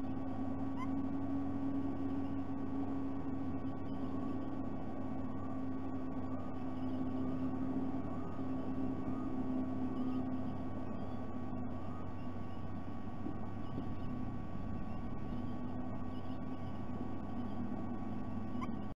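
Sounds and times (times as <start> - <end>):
low electrical hum: 0.0 - 19.0
distant birds chirping: 0.1 - 18.9.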